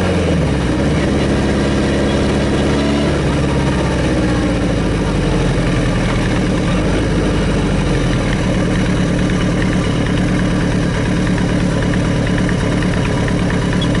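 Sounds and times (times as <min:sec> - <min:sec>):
motorcycle engine exhaust note: 0:00.0 - 0:14.0.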